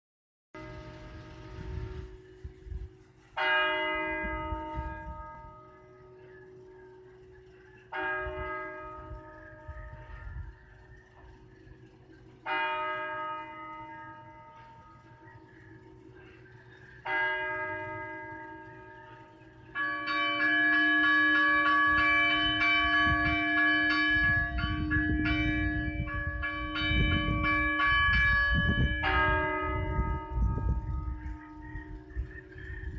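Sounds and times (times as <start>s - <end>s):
low rumbling noise: 0.6s - 19.9s, 21.6s - 32.9s
church bells ringing: 0.6s - 32.9s.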